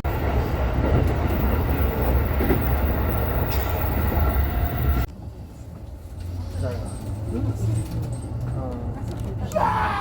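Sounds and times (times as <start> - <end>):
train wheels rumbling: 0.0 - 9.4.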